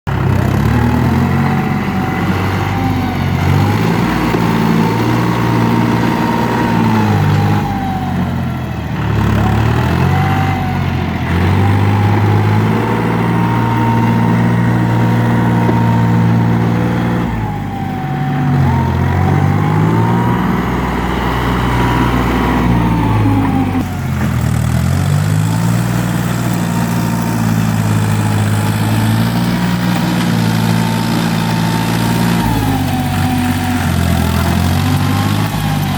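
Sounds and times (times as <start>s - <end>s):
tractor diesel engine: 0.0s - 35.9s
high engine whine: 0.1s - 35.9s.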